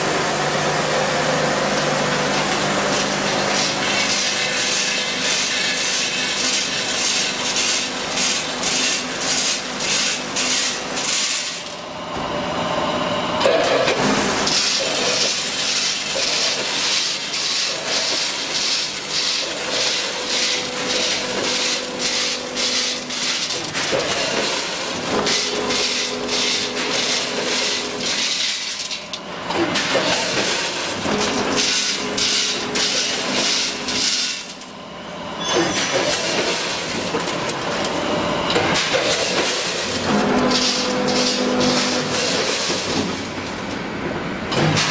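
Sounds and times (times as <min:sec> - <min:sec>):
pasta rattling through hoppers: 0:00.0 - 0:12.7, 0:13.4 - 0:34.8, 0:35.6 - 0:44.9
machine hum: 0:00.0 - 0:44.8.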